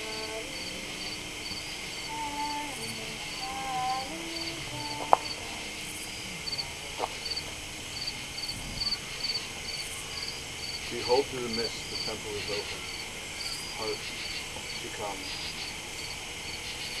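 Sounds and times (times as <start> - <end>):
crickets chirping: 0.0 - 17.0
steady insect hiss: 0.0 - 17.0.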